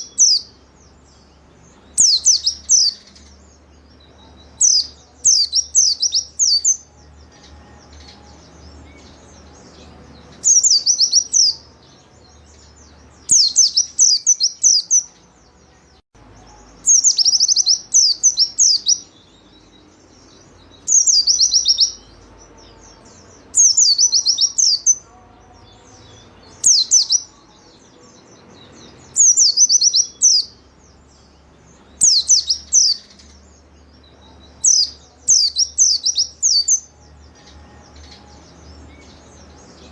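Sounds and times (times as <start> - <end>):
bird chirping: 0.0 - 39.9
faint low hum: 0.0 - 39.9.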